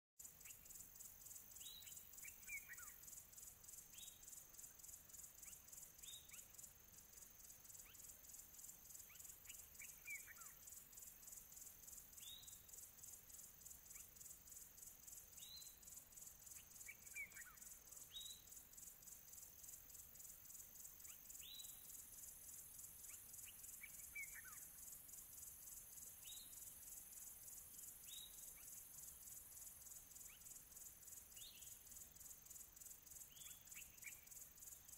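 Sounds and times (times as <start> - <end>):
insects trilling: 0.2 - 34.9
bird chirping: 0.3 - 34.9.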